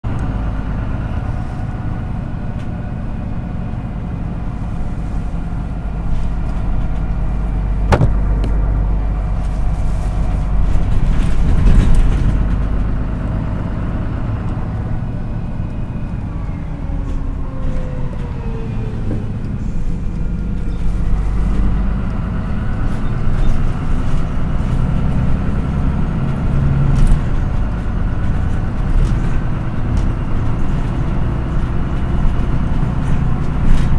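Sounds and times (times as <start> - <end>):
bus diesel engine running: 0.0 - 33.9.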